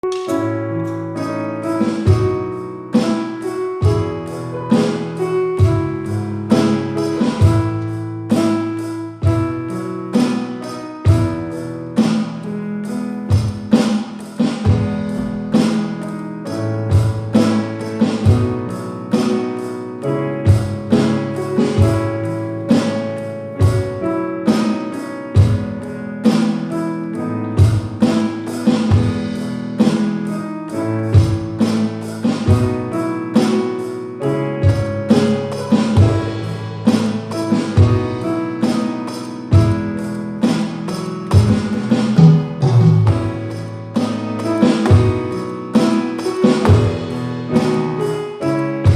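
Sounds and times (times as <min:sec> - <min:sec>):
drum kit playing: 0:00.0 - 0:48.9
recorded song with guitar and keyboard: 0:00.0 - 0:48.9.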